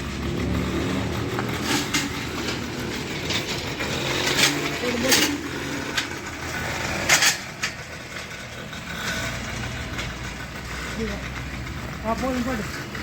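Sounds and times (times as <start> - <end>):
sharp clatter: 0.0 - 13.0
small petrol engine running: 0.0 - 13.0.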